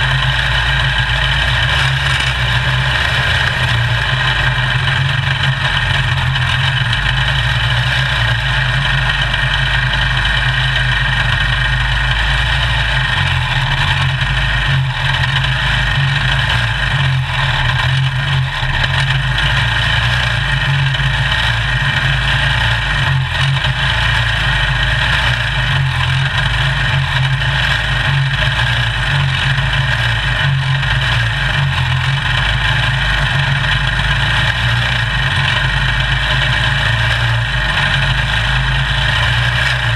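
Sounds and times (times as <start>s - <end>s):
other race car engines idling: 0.0s - 39.9s
race car engine idling: 0.0s - 39.9s.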